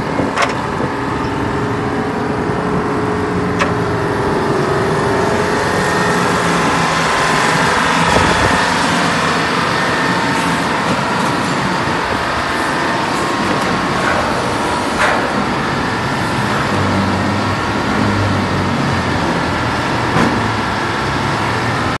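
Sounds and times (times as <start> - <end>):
crane engine and winch drone: 0.0 - 22.0.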